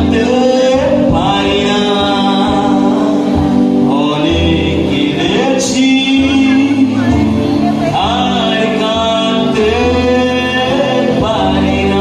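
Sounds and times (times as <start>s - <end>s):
drum kit: 0.0s - 12.0s
electric guitar: 0.0s - 12.0s
man singing into a microphone: 0.0s - 12.0s.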